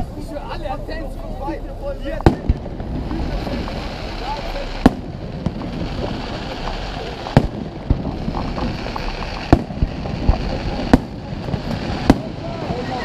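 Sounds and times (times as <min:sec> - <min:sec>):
crowd voices: 0:00.0 - 0:13.0
fireworks bangs: 0:02.0 - 0:13.0
faint fireworks pops: 0:02.1 - 0:13.0.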